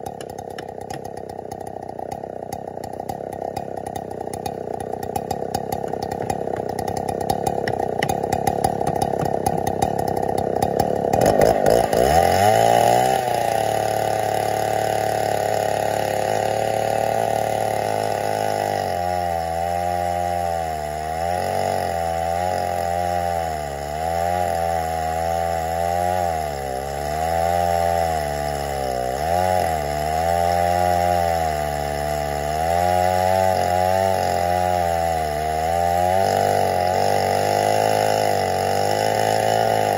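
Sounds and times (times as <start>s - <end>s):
chainsaw ripping wood: 0.0s - 39.9s.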